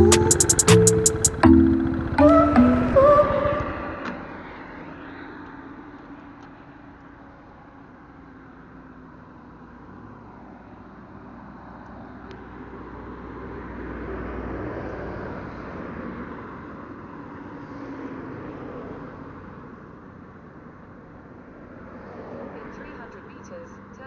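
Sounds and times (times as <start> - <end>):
road noise: 0.0 - 24.0
road vehicle engine: 0.0 - 24.0.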